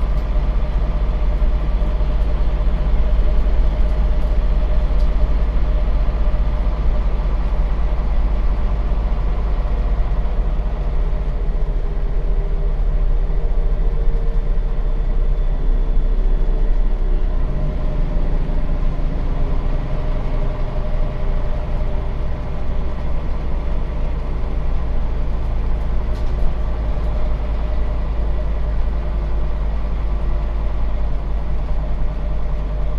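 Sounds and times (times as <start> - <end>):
bus diesel engine running: 0.0 - 32.9.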